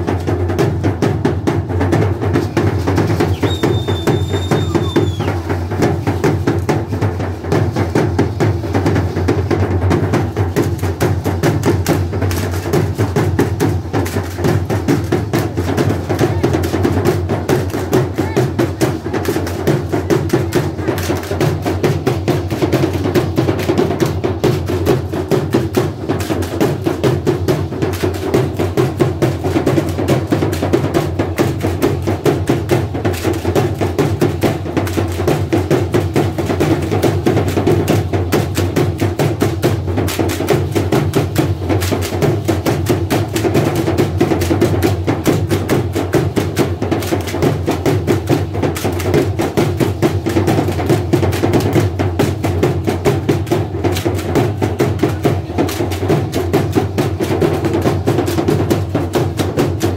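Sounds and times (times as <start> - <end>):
drum beating steady rhythm: 0.0 - 59.9.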